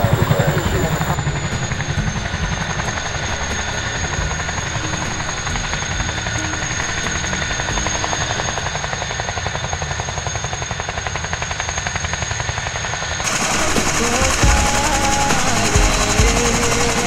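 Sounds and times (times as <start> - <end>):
helicopter rotors beating: 0.0 - 17.0
turbine whine: 0.0 - 17.0.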